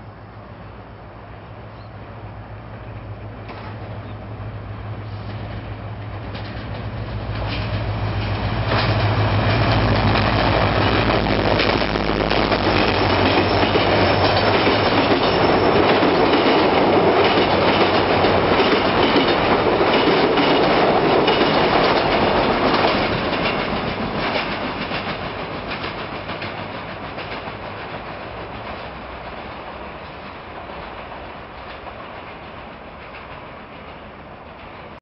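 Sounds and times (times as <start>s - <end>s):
locomotive engine hum: 0.0s - 35.0s
train wheels clattering on rails: 2.9s - 4.2s, 4.9s - 35.0s.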